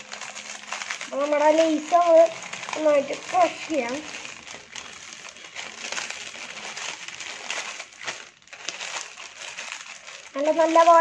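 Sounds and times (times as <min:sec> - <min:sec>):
potato chips crushed in packet: 0:00.0 - 0:11.0.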